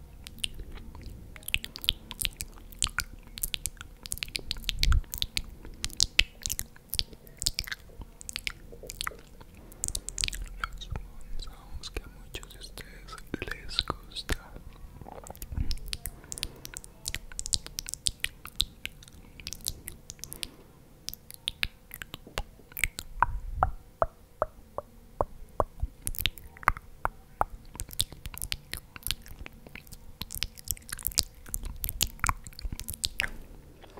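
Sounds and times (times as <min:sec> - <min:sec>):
chewing food: 0:00.0 - 0:23.4, 0:25.6 - 0:33.9
faint steady hum: 0:00.0 - 0:33.9
wet mouth clicks and smacks: 0:00.2 - 0:33.9.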